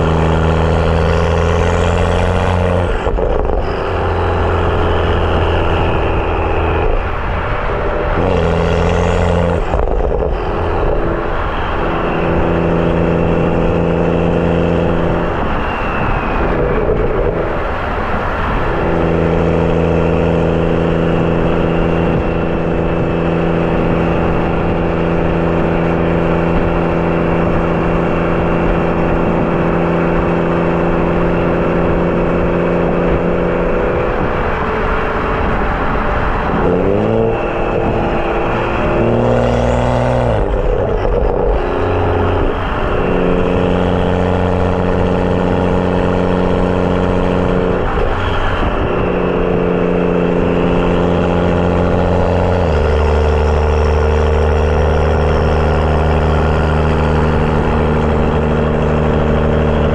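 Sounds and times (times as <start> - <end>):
car engine while driving: 0.0 - 59.9.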